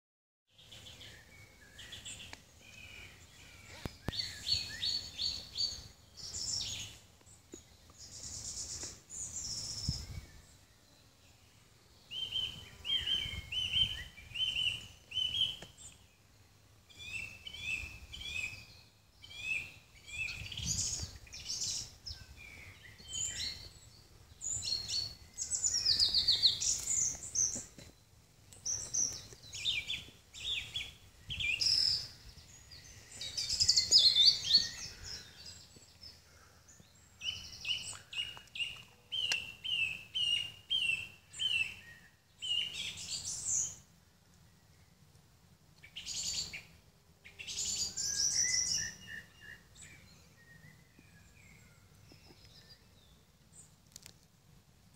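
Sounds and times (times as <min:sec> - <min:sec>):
songbirds singing: 0:00.5 - 0:54.9.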